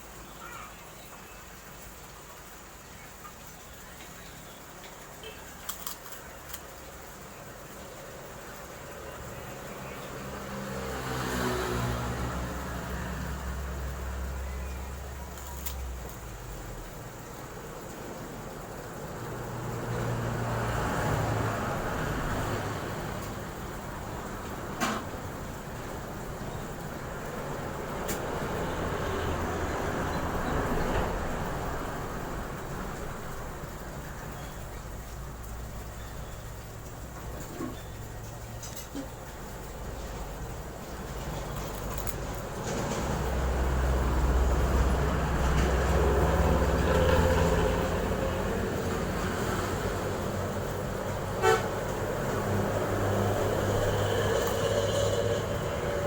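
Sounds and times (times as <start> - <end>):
road noise: 0.0 - 56.0
vehicle engine rumble: 6.8 - 56.0.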